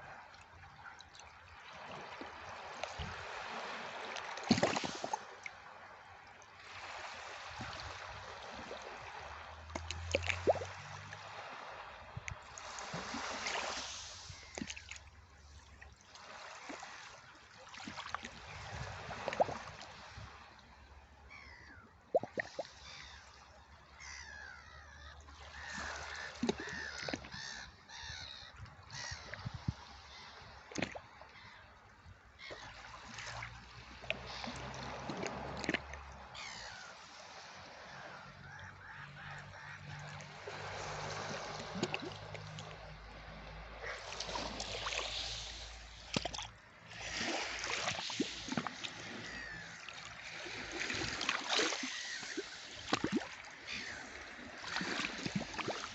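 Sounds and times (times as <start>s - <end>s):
sea water lapping: 0.0s - 55.9s.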